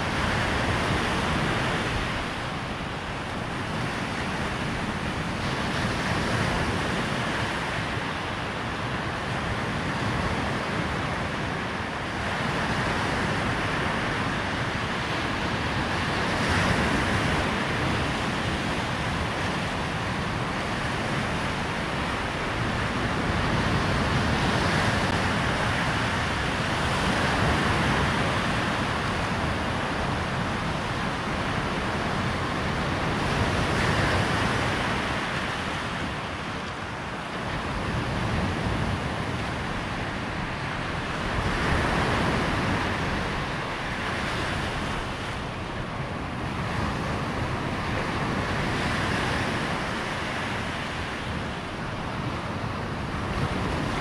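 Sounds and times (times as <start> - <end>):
waves breaking on sandy shore: 0.0 - 54.0.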